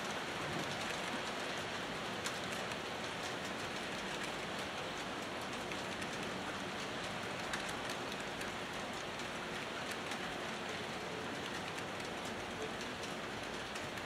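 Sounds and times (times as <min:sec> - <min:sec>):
faint rapid clicking: 0:00.0 - 0:14.0.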